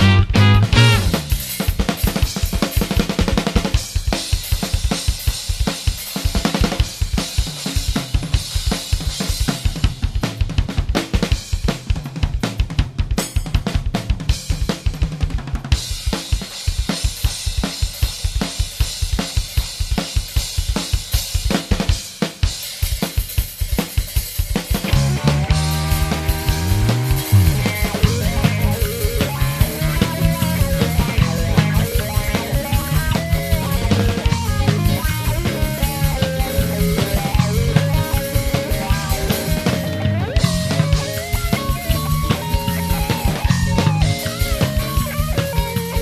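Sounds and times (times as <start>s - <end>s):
funk drum kit playing: 0.0s - 46.0s.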